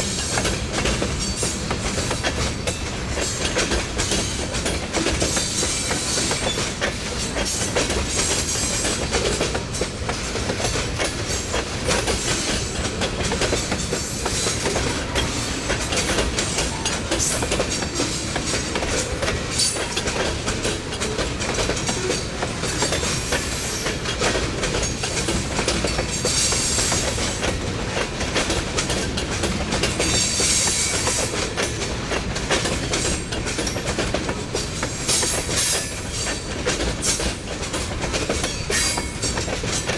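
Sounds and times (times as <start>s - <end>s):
train wheels clicking over rails: 0.0s - 39.9s.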